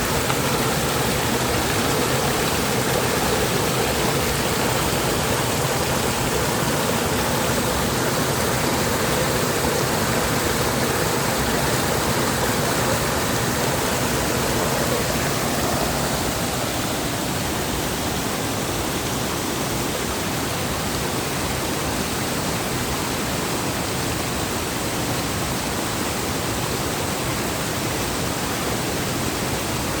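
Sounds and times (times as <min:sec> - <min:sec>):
rushing stream water: 0:00.0 - 0:30.0.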